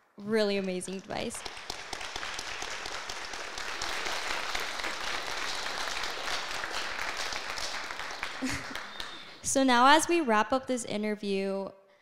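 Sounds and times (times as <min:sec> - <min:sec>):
audience applauding: 0:00.6 - 0:10.3.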